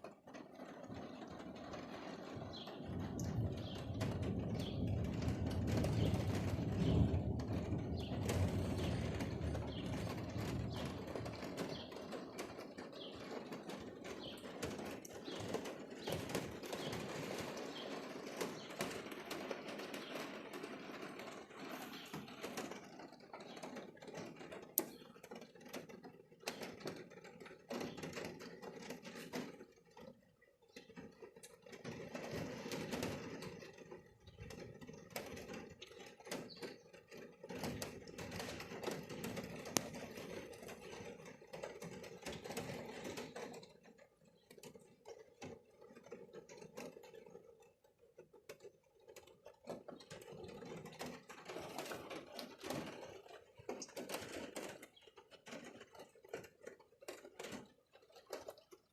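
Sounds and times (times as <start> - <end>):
rain pattering on hard surfaces: 0.0 - 58.9.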